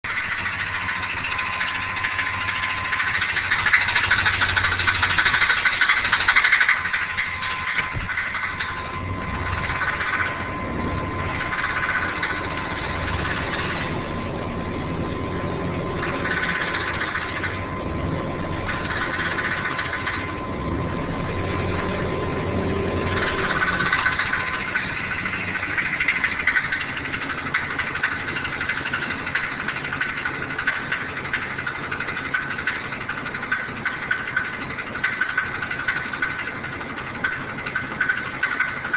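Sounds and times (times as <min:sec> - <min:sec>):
engine idling: 0:00.0 - 0:38.9
rapid metallic ticking rattle: 0:00.0 - 0:38.9.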